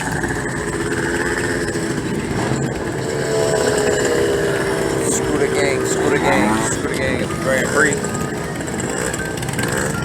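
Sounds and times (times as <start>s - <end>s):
vehicle approaching: 0.0s - 10.0s
vehicle engines in traffic: 0.0s - 10.0s.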